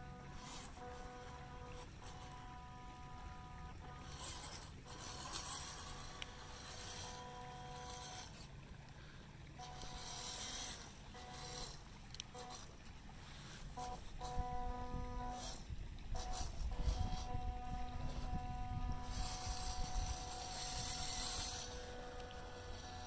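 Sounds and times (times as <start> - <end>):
motor whine: 0.0 - 23.0.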